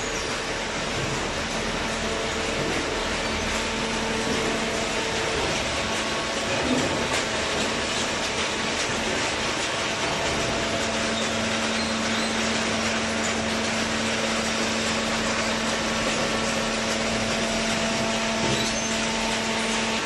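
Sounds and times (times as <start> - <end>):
baler machine humming: 0.0 - 20.0.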